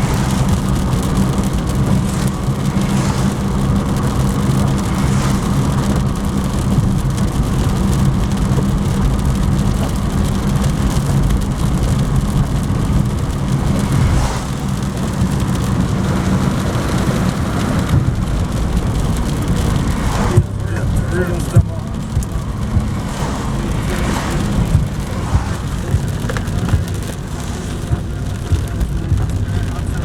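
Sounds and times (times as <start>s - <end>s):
car engine and road drone: 0.0s - 30.0s
rain and tyres on wet road: 0.0s - 30.0s.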